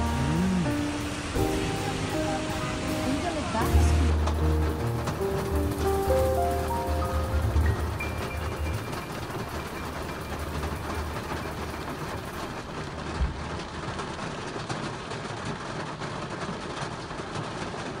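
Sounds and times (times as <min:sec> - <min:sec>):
heavy rain hissing: 0:00.0 - 0:17.1.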